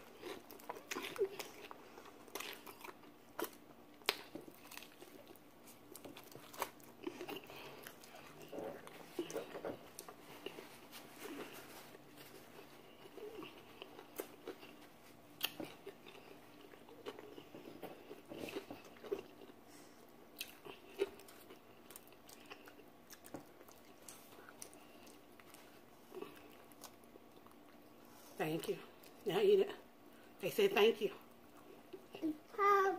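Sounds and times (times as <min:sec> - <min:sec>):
people chewing crispy chicken: 0:00.0 - 0:28.3.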